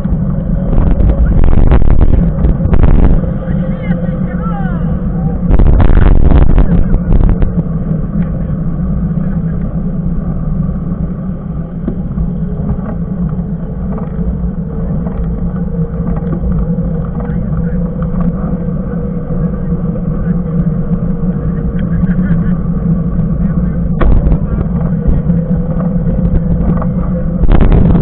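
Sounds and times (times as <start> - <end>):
tyres humming on tarmac: 0.0 - 28.0
wind buffeting microphone: 0.0 - 28.0.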